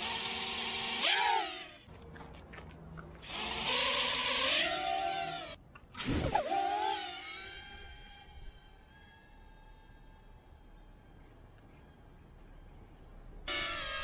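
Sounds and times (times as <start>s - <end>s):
drone motors whining: 0.0s - 1.9s, 3.2s - 14.0s.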